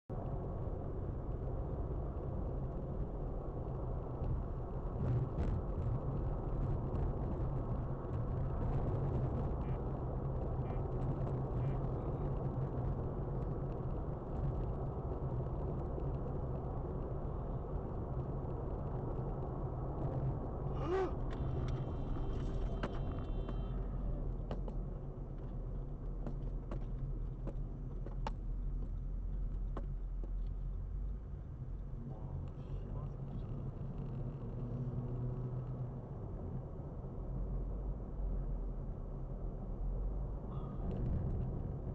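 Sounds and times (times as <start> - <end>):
car road and engine rumble: 0.1 - 41.9.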